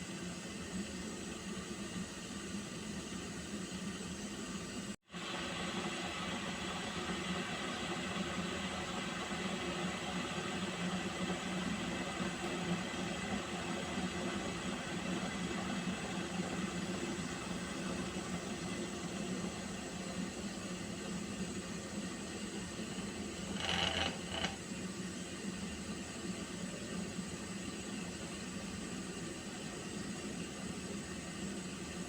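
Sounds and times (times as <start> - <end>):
water heating with hiss: 0.0 - 32.0.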